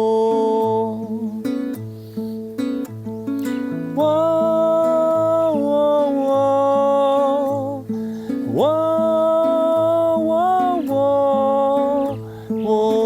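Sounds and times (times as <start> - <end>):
person singing wordless notes: 0.0 - 1.8, 3.8 - 13.0
acoustic guitar strumming: 0.0 - 13.0.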